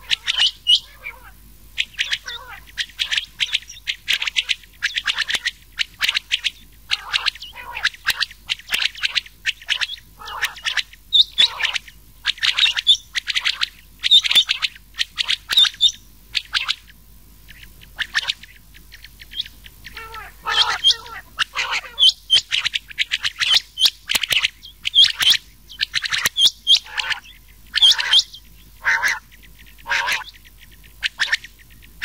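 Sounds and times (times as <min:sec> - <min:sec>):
quail calling: 0:00.0 - 0:32.0.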